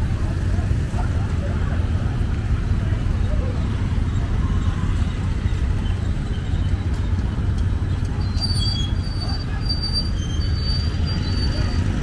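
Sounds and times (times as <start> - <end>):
city traffic rumble: 0.0 - 12.0
motorbikes passing: 0.0 - 12.0.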